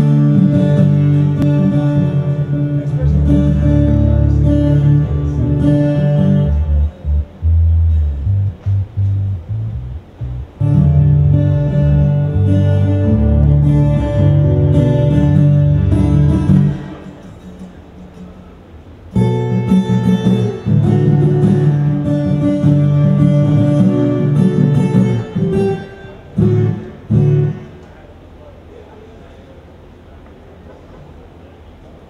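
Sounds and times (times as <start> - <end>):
guitar chords: 0.0 - 28.0.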